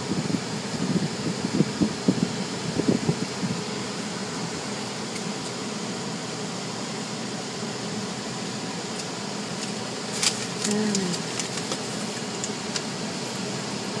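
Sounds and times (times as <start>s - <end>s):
muffled car wash machinery whooshing: 0.0s - 14.0s.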